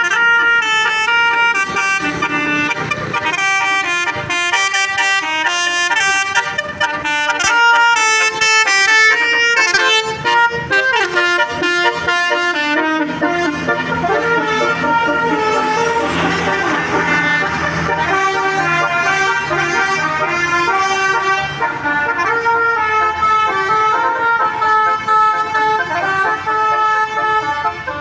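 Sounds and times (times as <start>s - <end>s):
musical bus horn playing a tune: 0.0s - 28.0s.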